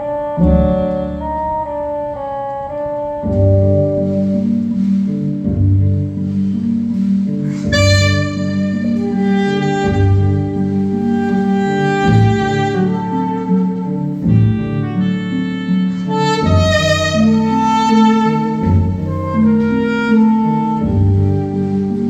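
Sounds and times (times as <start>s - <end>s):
saxophone playing slow melody: 0.0s - 4.7s, 7.4s - 22.0s
accompanying chords: 0.0s - 22.0s
steady bass line: 0.0s - 22.0s.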